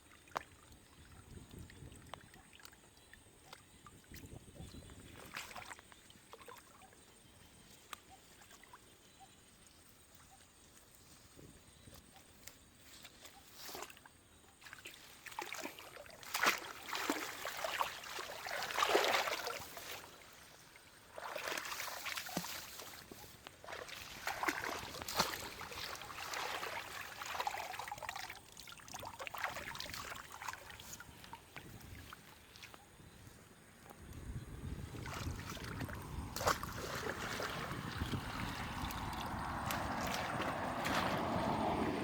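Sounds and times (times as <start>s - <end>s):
shallow water sloshing and splashing: 0.0s - 42.0s.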